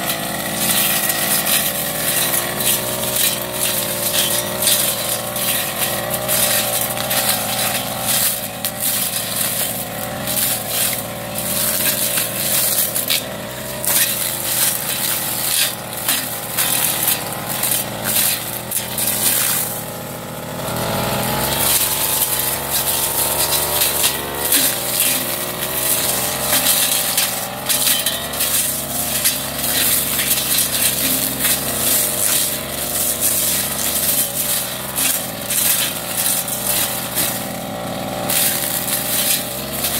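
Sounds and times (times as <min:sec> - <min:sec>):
brush cutter engine at high revs: 0:00.0 - 0:39.9
stems crackling under cutter: 0:00.0 - 0:39.9.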